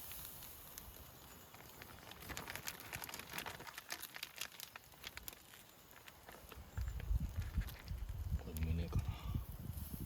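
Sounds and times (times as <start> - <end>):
meat crackling on grill: 0.0 - 10.0.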